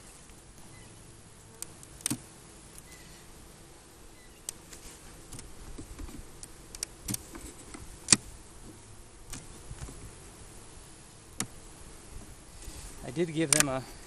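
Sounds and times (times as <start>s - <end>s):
hive tool scraping wooden frames: 1.5s - 14.0s.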